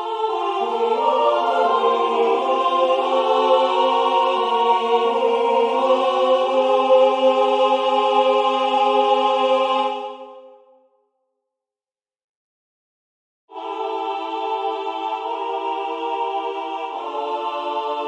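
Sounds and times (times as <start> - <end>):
choir singing slow passage: 0.0 - 11.0, 13.5 - 18.0.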